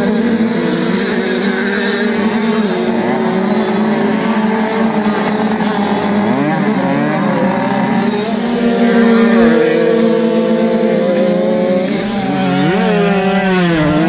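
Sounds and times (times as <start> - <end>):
small motocross bikes revving: 0.0 - 14.0.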